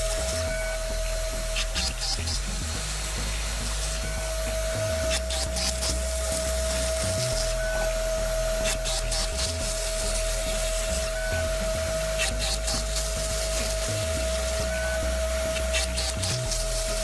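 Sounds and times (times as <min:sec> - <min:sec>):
low machine hum: 0:00.0 - 0:17.0
machine high whine: 0:00.0 - 0:17.0.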